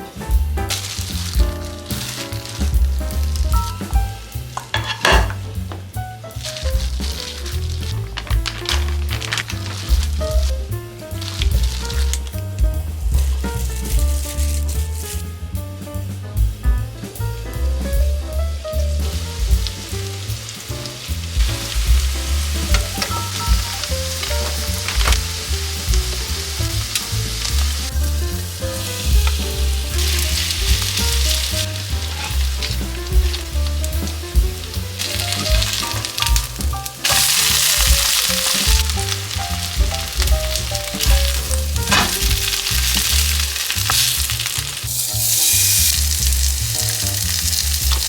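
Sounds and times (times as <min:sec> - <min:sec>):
fritters sizzling in hot oil: 0:00.0 - 0:15.2, 0:18.6 - 0:48.0
background music with bass line: 0:00.0 - 0:48.0.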